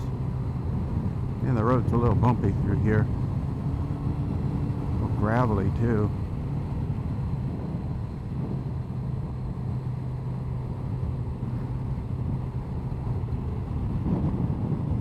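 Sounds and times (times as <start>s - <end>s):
motorcycle engine cruising: 0.0s - 15.0s
road noise on bumpy road: 0.0s - 15.0s
wind noise: 0.0s - 15.0s.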